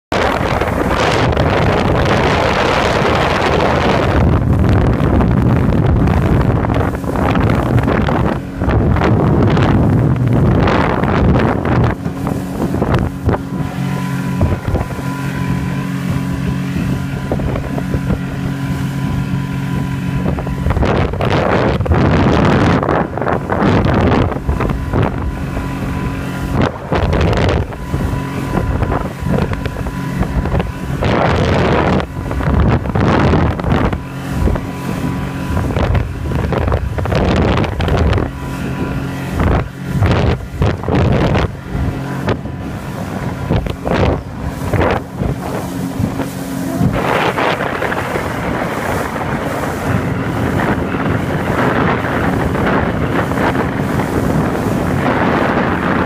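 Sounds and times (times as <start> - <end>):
outboard motor running: 0.0 - 56.0
rushing wind and water: 0.0 - 56.0
wind buffeting microphone: 0.0 - 56.0.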